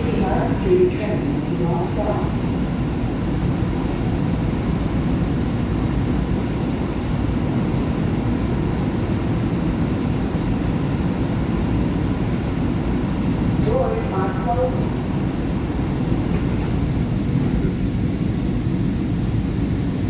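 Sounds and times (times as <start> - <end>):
subway car low rumble and hum: 0.0 - 20.0.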